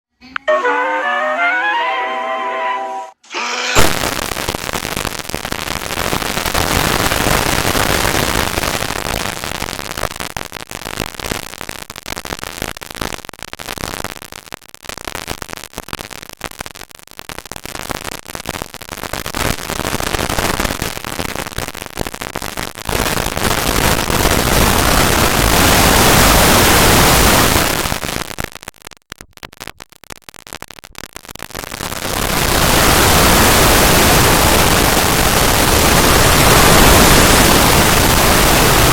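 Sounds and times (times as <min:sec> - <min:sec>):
distorted hiss and crackle: 0:03.6 - 0:38.9.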